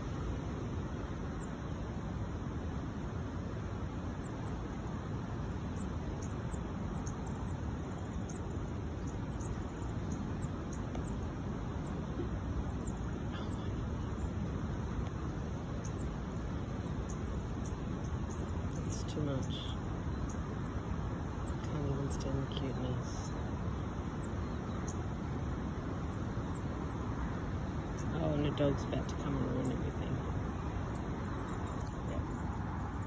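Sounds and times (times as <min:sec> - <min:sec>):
traffic rumble: 0:00.0 - 0:33.0
small birds chipping: 0:03.6 - 0:33.0.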